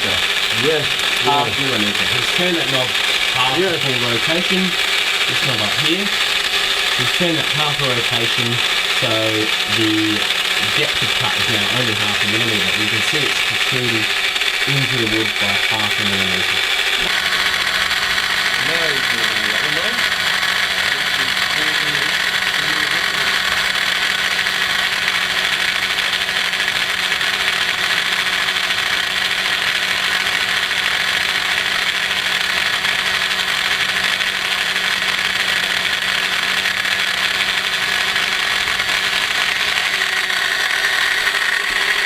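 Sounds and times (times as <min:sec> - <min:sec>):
milling machine cutting wood: 0:00.0 - 0:42.0.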